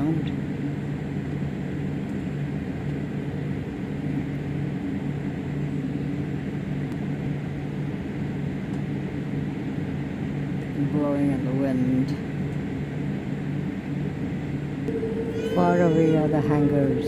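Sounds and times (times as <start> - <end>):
cabin air hum: 0.0 - 17.0
jet engines rumbling: 0.0 - 17.0.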